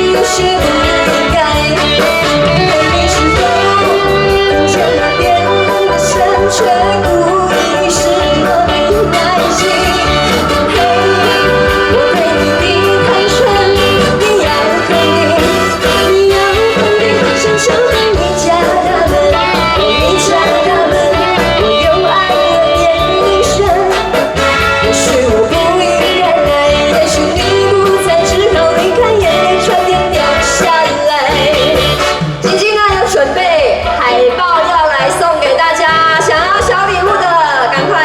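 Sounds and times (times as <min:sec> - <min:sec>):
live band music: 0:00.0 - 0:38.0
woman singing pop melody: 0:00.0 - 0:38.0.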